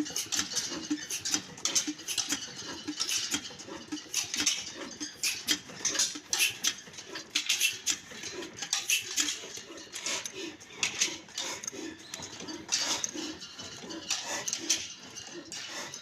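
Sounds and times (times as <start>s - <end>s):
metallic clicks and clatter: 0.0s - 16.0s.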